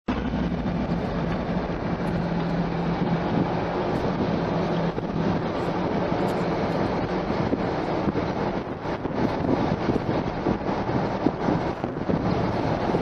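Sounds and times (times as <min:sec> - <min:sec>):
car engine idling in cabin: 0:00.1 - 0:13.0.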